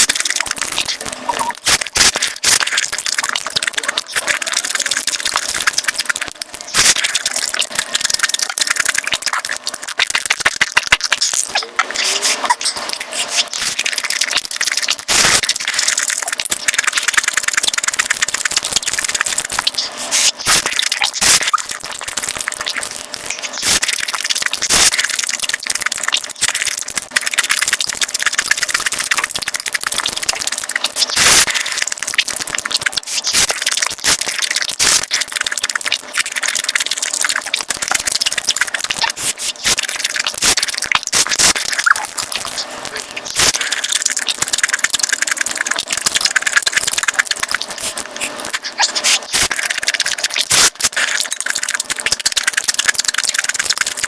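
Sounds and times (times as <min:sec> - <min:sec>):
crunching and wet chewing: 0:00.0 - 0:54.0.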